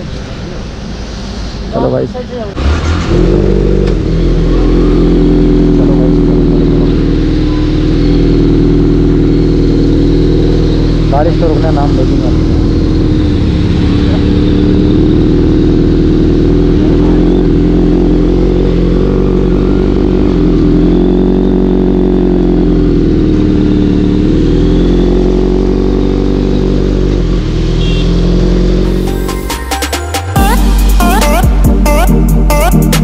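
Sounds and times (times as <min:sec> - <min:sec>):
motorcycle engine running: 0:01.8 - 0:29.4.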